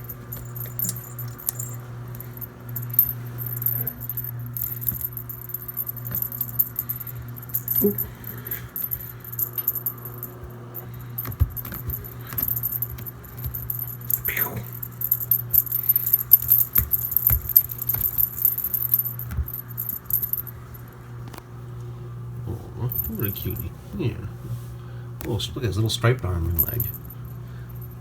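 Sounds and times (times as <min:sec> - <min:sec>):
light jingling and rattling: 0:00.0 - 0:21.0, 0:25.8 - 0:28.0
washing machine humming: 0:00.0 - 0:28.0.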